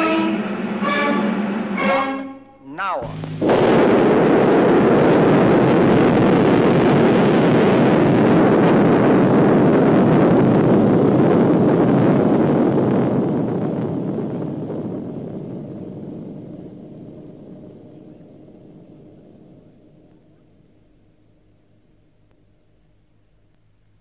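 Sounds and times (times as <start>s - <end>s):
explosion rushing roar: 0.0s - 20.0s.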